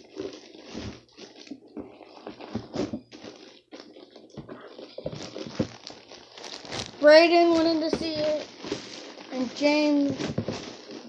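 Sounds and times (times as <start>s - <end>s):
handling knocks scrapes and rustling: 0.0s - 11.0s.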